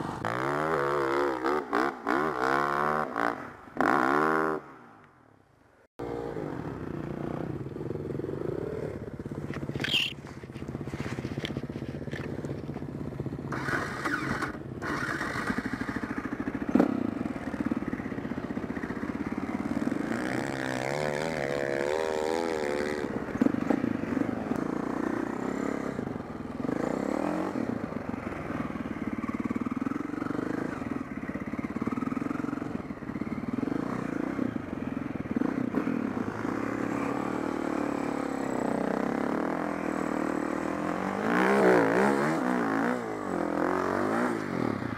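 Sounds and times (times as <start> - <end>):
motorcycle engine revving: 0.0 - 4.9, 6.0 - 44.9.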